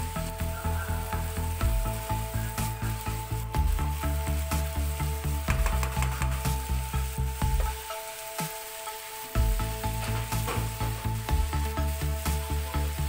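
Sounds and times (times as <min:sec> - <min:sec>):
background music with low beat: 0:00.0 - 0:13.0
meat sizzling in a frying pan: 0:00.0 - 0:13.0.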